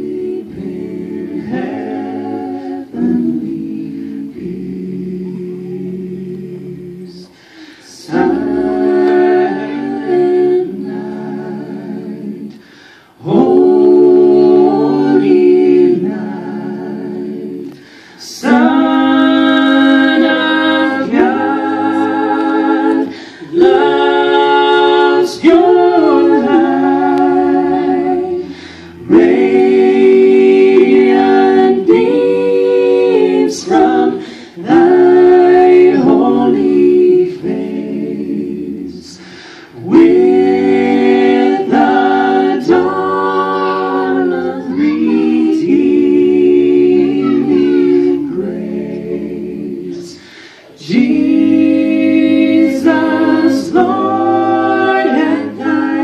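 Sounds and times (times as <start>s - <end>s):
a cappella group singing in harmony: 0.0s - 56.0s.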